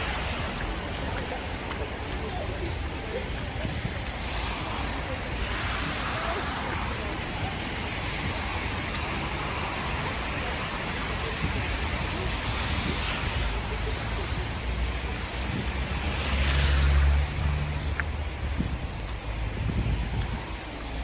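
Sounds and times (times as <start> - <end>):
traffic: 0.0 - 21.0
wind noise: 0.0 - 21.0.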